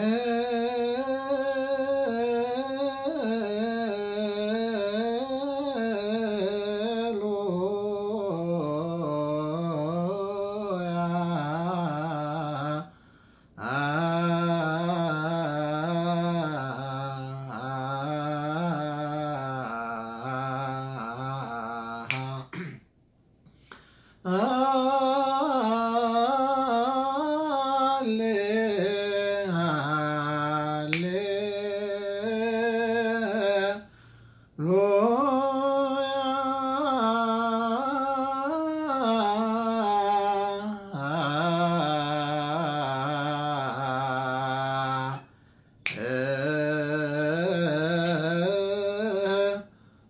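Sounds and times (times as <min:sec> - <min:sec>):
man chanting a hymn: 0:00.0 - 0:22.7, 0:24.2 - 0:49.9.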